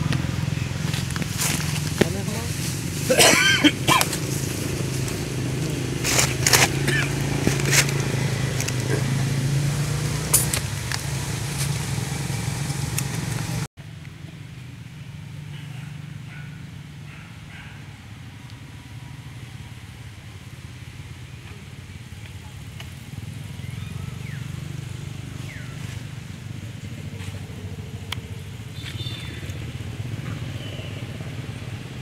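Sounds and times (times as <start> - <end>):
vehicle engine humming: 0.0 - 32.0.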